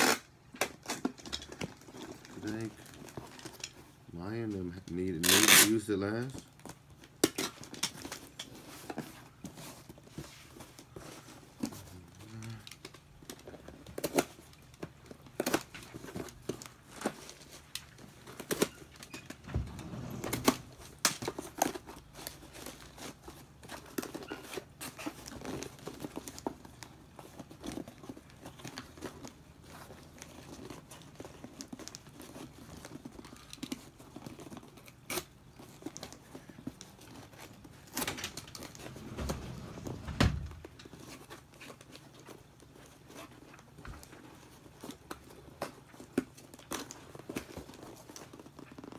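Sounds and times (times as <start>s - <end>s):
cardboard rustling and scraping: 0.0s - 48.9s.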